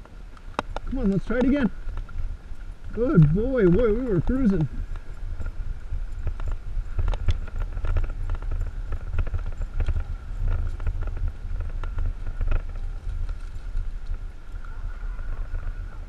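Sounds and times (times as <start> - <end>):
wheels rumbling over grass: 0.0 - 16.0.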